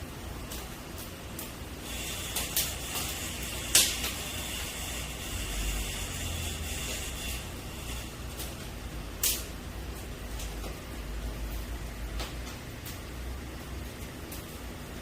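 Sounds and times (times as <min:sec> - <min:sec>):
wood fire crackling and hissing: 0:00.0 - 0:15.0
sharp pops of fire: 0:00.4 - 0:05.3, 0:05.9 - 0:13.2.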